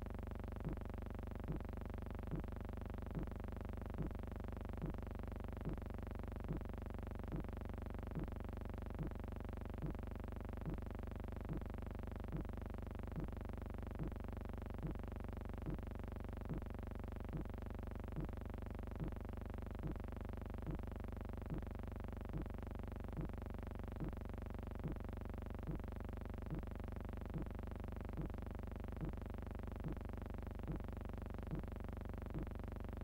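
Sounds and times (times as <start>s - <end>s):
electronic hum of held tones: 0.0s - 33.0s.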